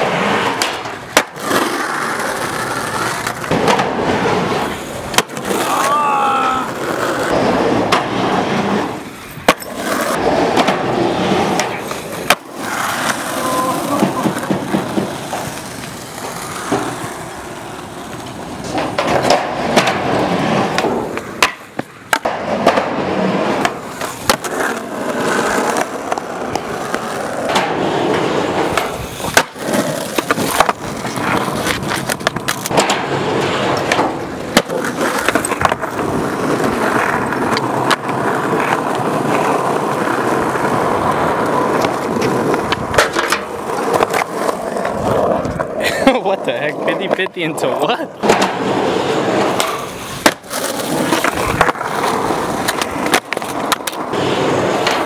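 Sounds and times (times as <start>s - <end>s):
skateboard clacking: 0.0s - 55.0s
skateboard wheels rolling on asphalt: 0.0s - 55.0s.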